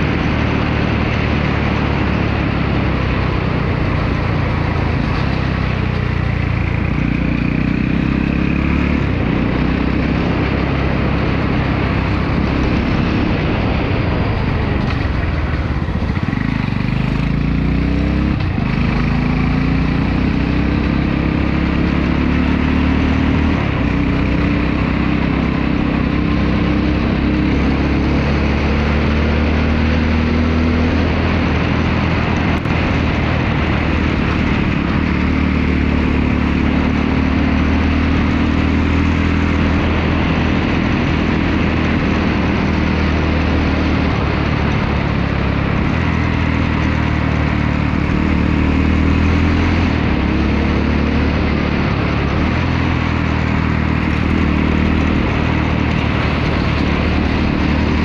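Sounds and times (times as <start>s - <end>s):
wind noise on microphone: 0.0s - 22.1s, 23.2s - 58.0s
motorcycle engine accelerating: 0.0s - 58.0s.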